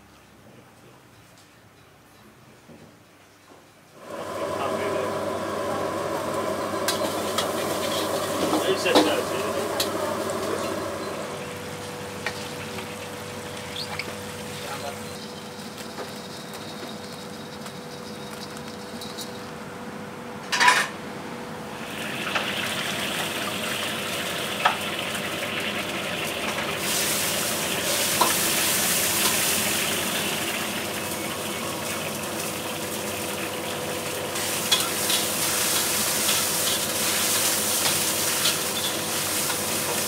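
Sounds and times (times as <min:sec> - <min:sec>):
wok sizzling: 0:04.0 - 0:18.4, 0:21.7 - 0:40.0.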